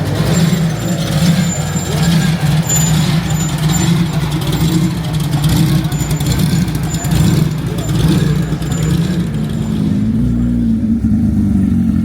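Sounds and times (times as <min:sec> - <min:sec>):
car engine idling choppily: 0:00.0 - 0:12.0.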